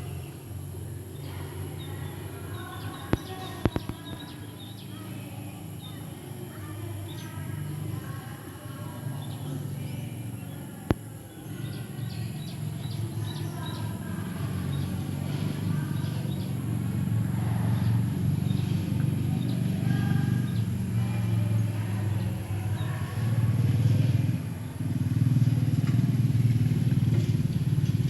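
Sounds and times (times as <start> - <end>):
birds chirping: 0.0 - 28.0
low engine hum: 0.0 - 28.0.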